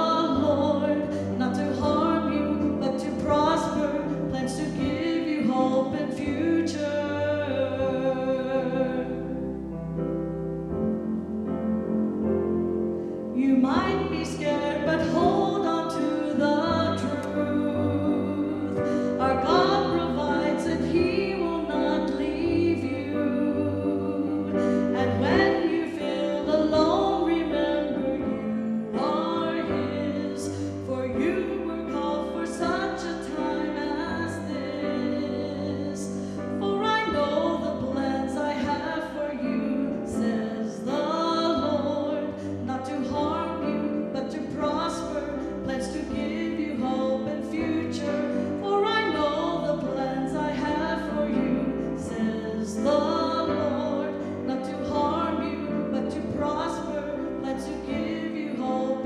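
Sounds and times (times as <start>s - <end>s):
woman singing: 0.0s - 9.4s, 11.2s - 59.0s
grand piano: 0.0s - 59.0s.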